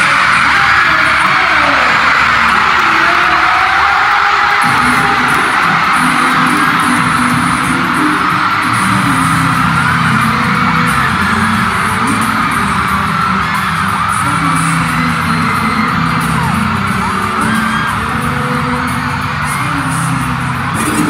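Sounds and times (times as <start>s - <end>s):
crowd cheering and screaming: 0.0s - 21.0s
music over loudspeakers: 0.0s - 21.0s.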